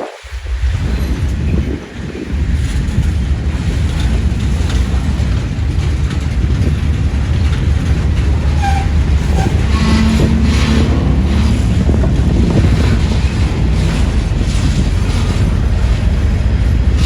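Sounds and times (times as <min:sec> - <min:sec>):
train rumbling past: 0:00.0 - 0:17.0
wind on microphone: 0:00.0 - 0:17.0.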